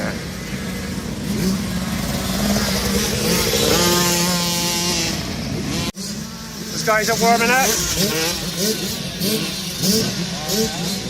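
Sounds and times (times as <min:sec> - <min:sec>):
bike engine steady high note: 0:00.0 - 0:11.0
dirt bike engines running: 0:00.0 - 0:11.0.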